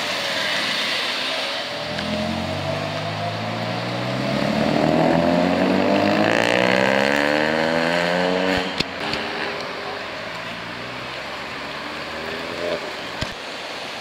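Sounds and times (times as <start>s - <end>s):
car engine accelerating: 1.4s - 13.1s.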